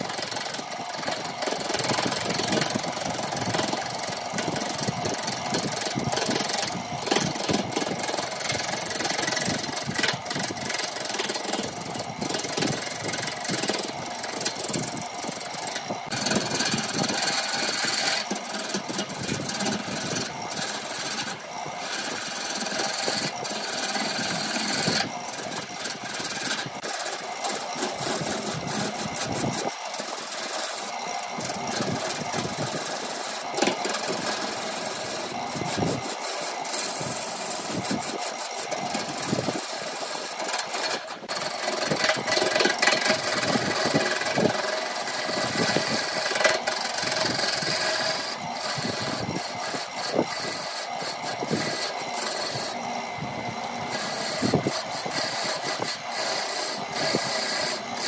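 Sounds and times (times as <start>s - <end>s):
wood lathe turning tool cutting: 0.0s - 58.0s.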